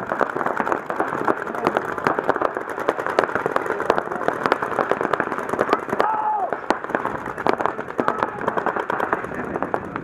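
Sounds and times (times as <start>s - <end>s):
paintball markers firing: 0.0s - 10.0s
steady rushing noise: 0.0s - 10.0s.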